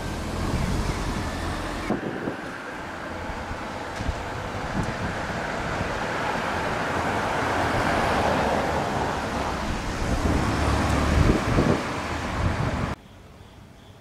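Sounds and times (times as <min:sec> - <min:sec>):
low rumbling buffets: 0:00.0 - 0:13.0
wind buffeting microphone: 0:00.3 - 0:13.0.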